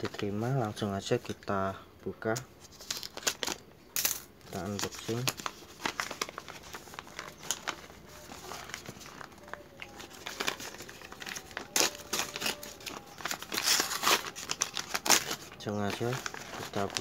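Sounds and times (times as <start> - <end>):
packaging wrap crinkling: 2.6 - 17.0.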